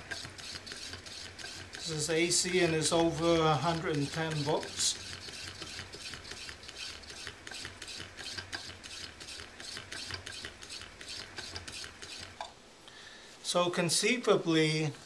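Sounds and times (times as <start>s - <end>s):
hand-cranked motor clicking and rattling: 0.0s - 12.5s.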